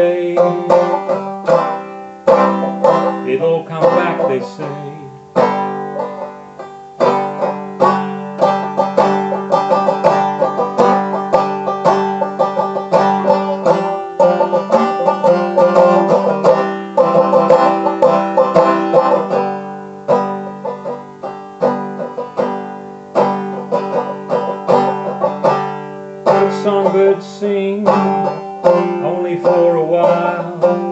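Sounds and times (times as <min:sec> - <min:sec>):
banjo playing: 0:00.0 - 0:30.9.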